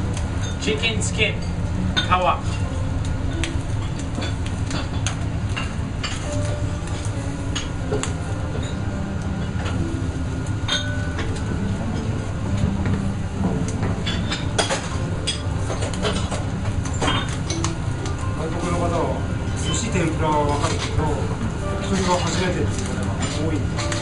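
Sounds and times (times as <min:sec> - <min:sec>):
metal skewers clinking on grill: 0:00.1 - 0:08.8, 0:10.7 - 0:12.1, 0:13.6 - 0:24.0.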